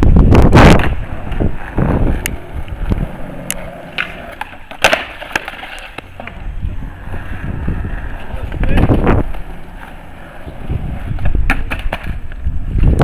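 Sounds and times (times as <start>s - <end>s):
skateboard wheels rolling: 0.0s - 13.0s
skateboard clacks: 0.3s - 13.0s.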